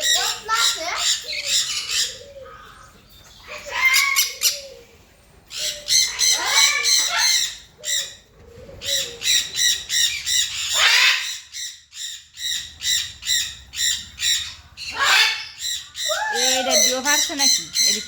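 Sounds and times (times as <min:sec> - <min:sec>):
parakeets squawking: 0:00.0 - 0:04.8, 0:05.5 - 0:08.2, 0:08.8 - 0:18.0.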